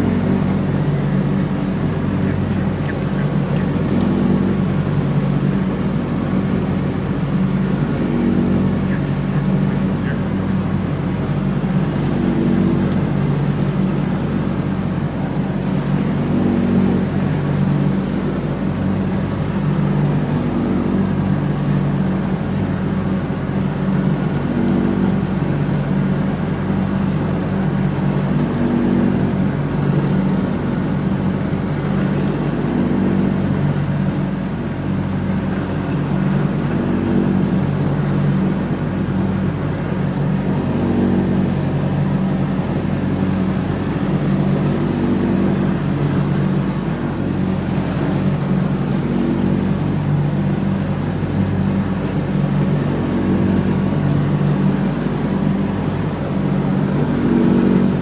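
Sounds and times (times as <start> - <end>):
lawn tractor engine mowing: 0.0 - 58.0.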